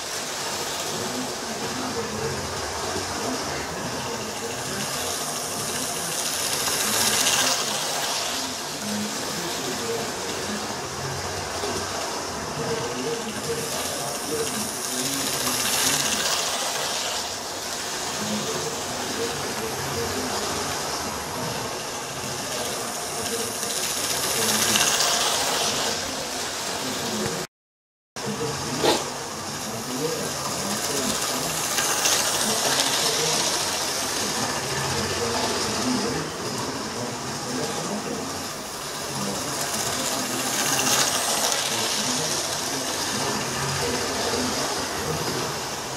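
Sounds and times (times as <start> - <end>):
model train motors whirring: 0.0 - 27.4, 28.2 - 45.9.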